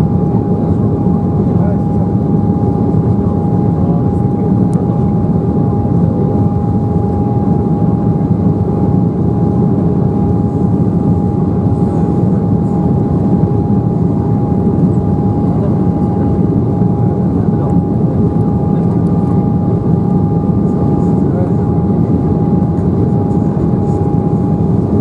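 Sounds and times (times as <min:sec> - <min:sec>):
jet engine whine: 0:00.0 - 0:25.0.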